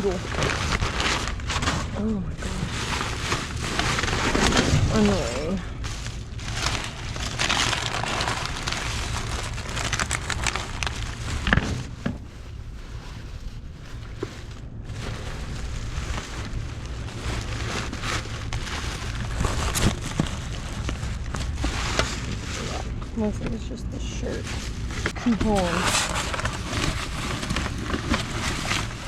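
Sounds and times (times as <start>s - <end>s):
crackles and knocks: 0.0s - 29.0s
plastic bags rustling and crinkling: 0.0s - 29.0s
steady low rumble: 0.0s - 29.0s.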